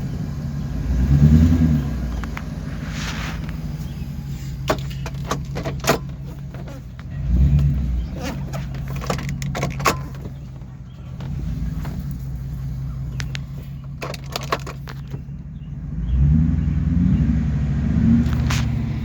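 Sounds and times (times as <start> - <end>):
truck engine misfiring: 0.0 - 19.0.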